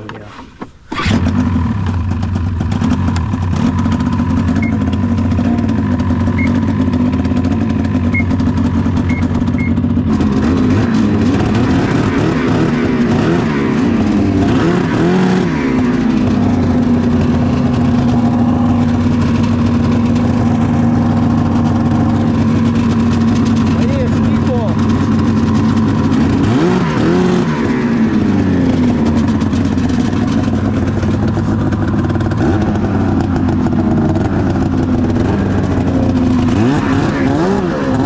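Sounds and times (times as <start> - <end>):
snowmobile engine idling and revving: 0.0 - 38.0.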